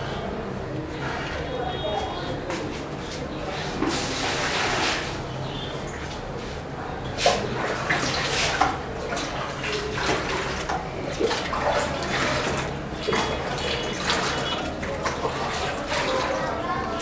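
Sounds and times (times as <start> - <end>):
water sloshing in plastic basin: 2.6 - 17.0.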